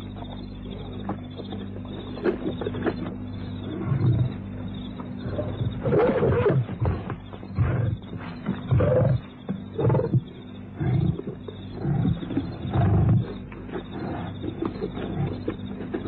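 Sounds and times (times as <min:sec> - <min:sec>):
lions roaring and fighting: 0:00.0 - 0:16.0
steady low hum: 0:00.0 - 0:16.0.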